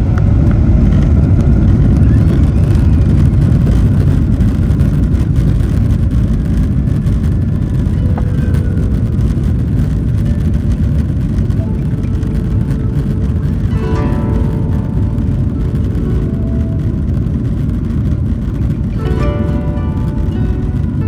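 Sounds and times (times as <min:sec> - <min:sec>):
jet engines at takeoff thrust: 0:00.0 - 0:21.0
low rumble of wheels on runway: 0:00.0 - 0:21.0.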